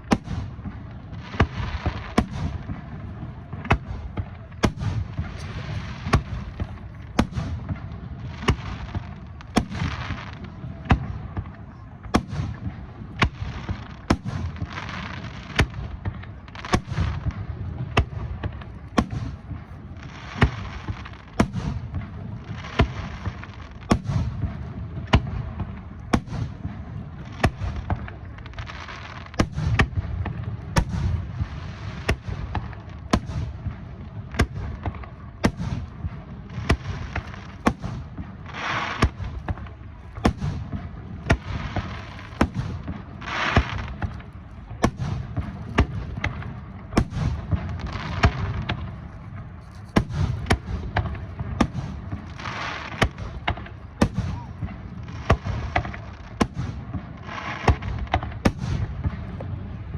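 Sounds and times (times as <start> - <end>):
fireworks bangs: 0.0 - 59.9
fireworks crackling hiss: 0.0 - 59.9.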